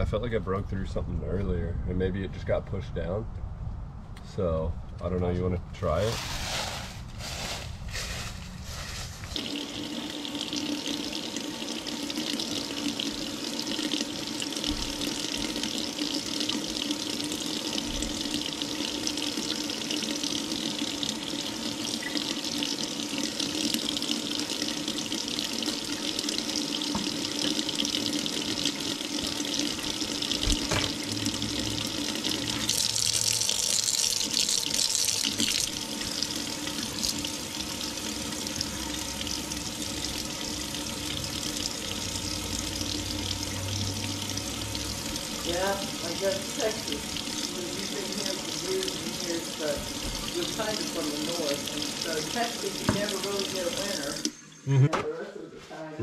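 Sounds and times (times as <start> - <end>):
faucet running into steel sink: 9.4 - 54.6.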